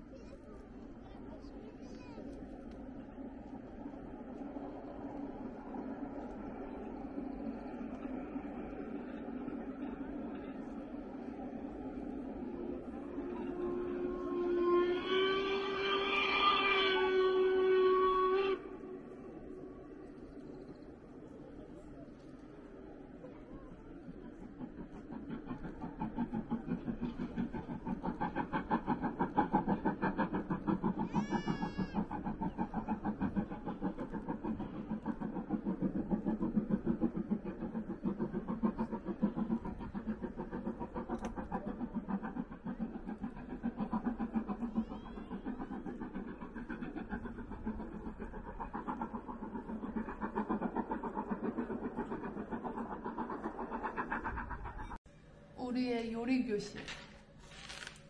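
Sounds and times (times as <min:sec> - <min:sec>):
steam locomotive chuffing: 0:00.0 - 0:58.0.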